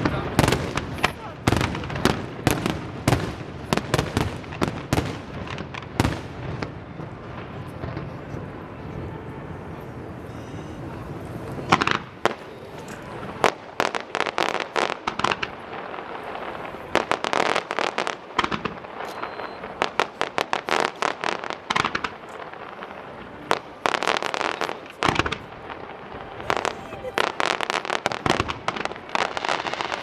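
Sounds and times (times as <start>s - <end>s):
fireworks bangs and cracks: 0.0s - 30.0s.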